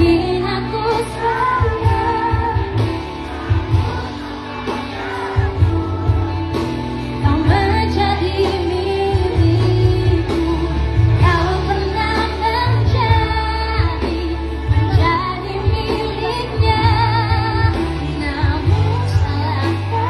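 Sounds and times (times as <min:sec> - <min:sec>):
person singing pop ballad: 0:00.0 - 0:20.0.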